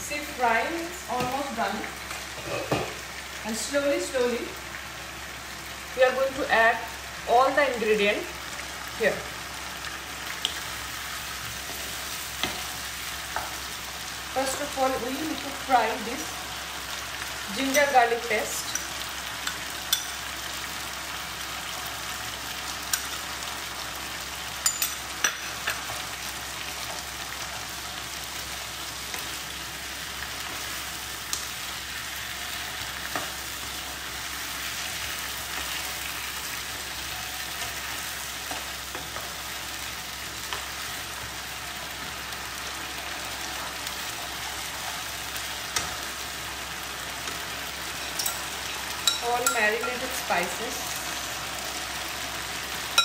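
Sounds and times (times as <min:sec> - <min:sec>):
meat sizzling in oil: 0:00.0 - 0:53.0.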